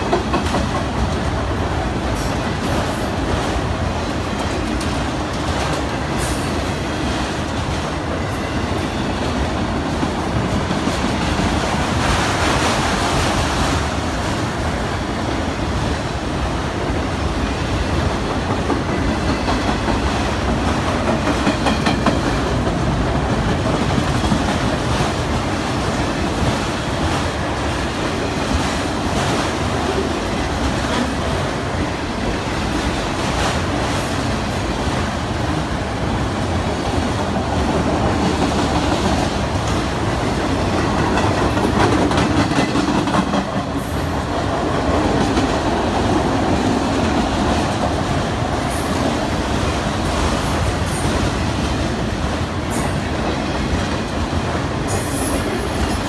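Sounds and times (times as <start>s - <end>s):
steel wheels rolling on rails: 0.0s - 56.0s.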